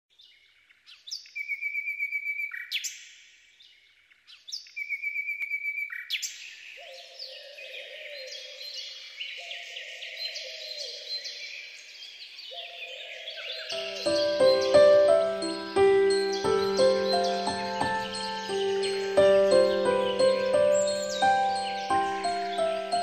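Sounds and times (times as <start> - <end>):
bird singing trill: 0.2 - 3.0, 4.3 - 23.0
chorus of bird calls: 4.1 - 23.0.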